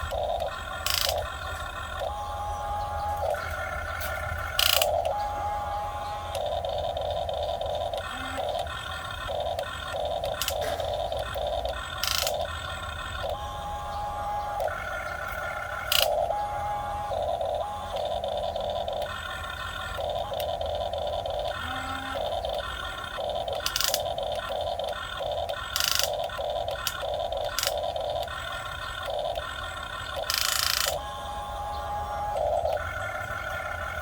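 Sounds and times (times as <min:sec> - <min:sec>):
small electric motors whining: 0:00.0 - 0:34.0.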